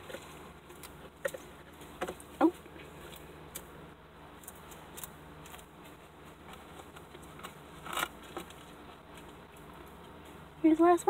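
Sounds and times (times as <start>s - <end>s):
lizard crunching insects: 0.0s - 10.6s.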